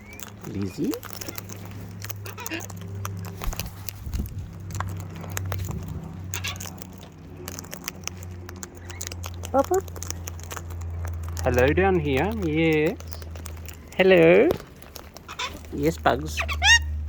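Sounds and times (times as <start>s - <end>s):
birds pecking and cracking seed: 0.0s - 17.0s
steady low hum: 0.0s - 17.0s.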